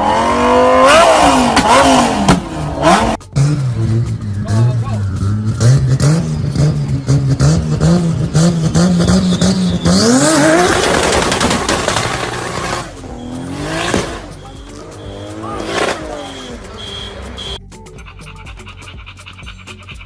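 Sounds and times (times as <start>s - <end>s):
car engine with loud exhaust: 0.0s - 17.6s
exhaust crackling pops: 0.0s - 17.6s.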